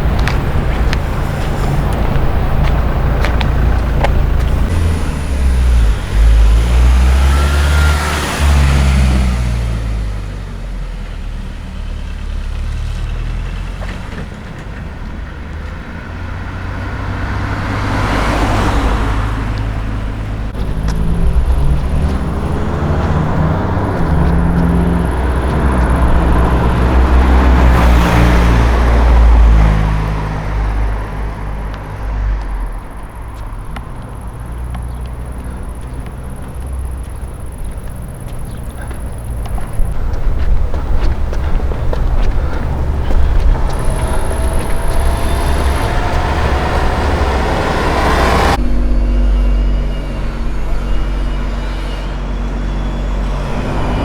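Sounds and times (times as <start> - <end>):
vehicle engine hum: 0.0 - 54.0.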